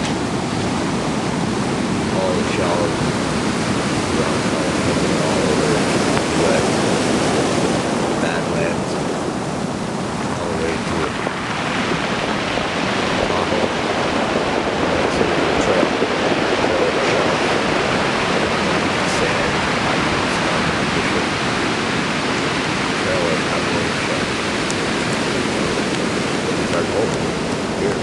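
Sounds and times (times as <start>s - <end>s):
ocean surf on a cobble beach: 0.0s - 28.0s.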